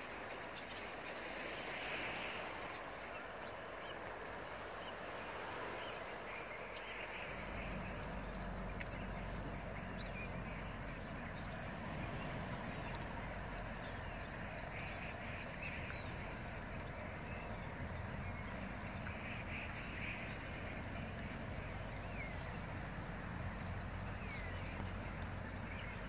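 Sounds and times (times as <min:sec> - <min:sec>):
waterbird calls: 0:00.0 - 0:26.0
small birds chirping: 0:02.2 - 0:26.0
low outdoor rumble: 0:02.4 - 0:26.0.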